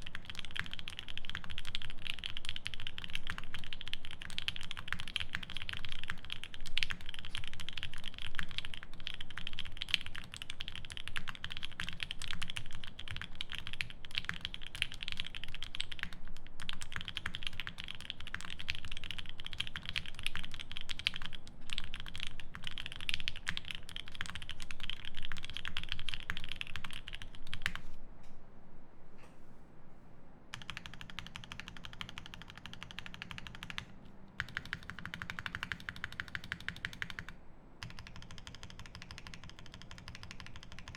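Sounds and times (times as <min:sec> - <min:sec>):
mechanical keyboard typing: 0:00.0 - 0:27.9, 0:30.5 - 0:40.9.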